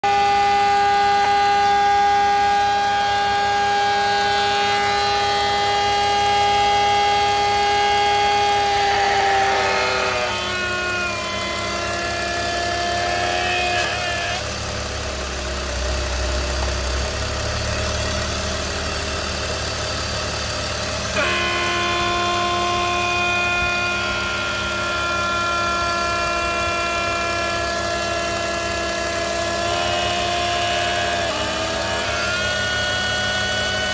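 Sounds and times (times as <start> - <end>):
car engine whining hum: 0.0 - 33.9.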